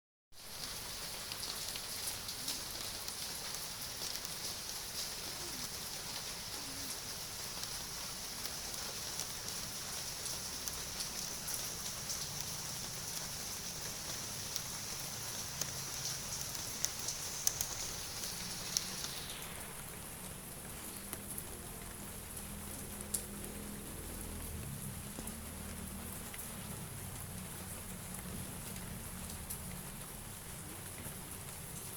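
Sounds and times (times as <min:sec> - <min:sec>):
light drizzle falling: 0:00.4 - 0:31.9.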